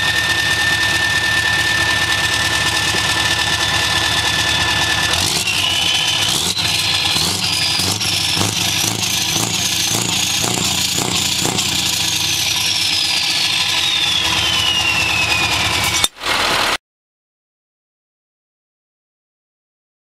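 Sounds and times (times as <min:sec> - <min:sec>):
diesel truck engine running: 0:00.0 - 0:16.8
high engine whine: 0:00.0 - 0:16.8.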